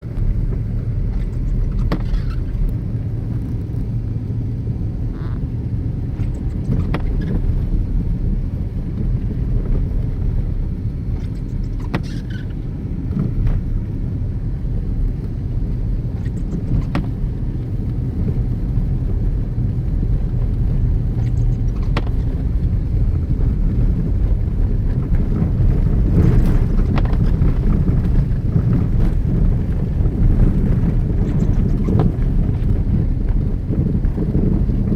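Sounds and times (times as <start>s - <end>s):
car engine and road rumble: 0.0s - 34.9s.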